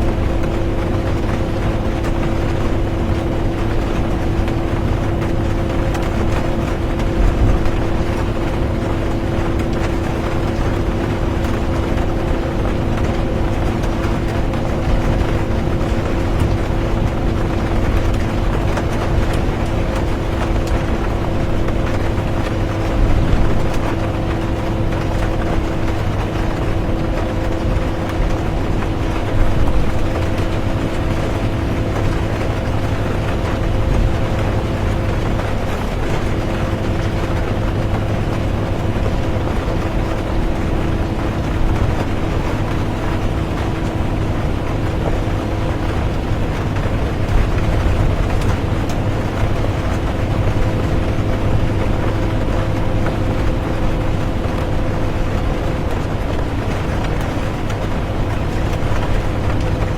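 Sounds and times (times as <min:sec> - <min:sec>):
bus bumps: 0:00.0 - 0:59.9
bus engine and road rumble: 0:00.0 - 0:59.9
rain on bus: 0:00.0 - 0:59.9.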